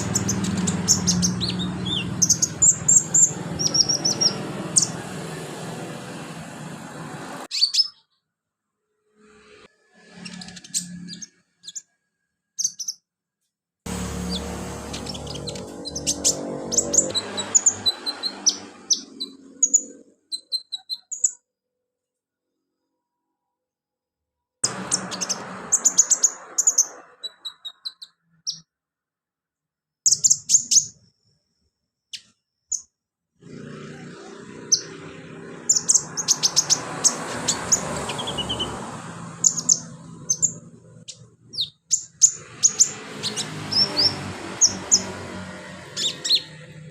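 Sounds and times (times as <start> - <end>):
bird chirping and trilling: 0.0 - 5.9, 7.4 - 8.3, 9.4 - 12.0, 12.6 - 13.1, 13.9 - 21.6, 24.6 - 28.8, 30.0 - 31.2, 32.1 - 46.9.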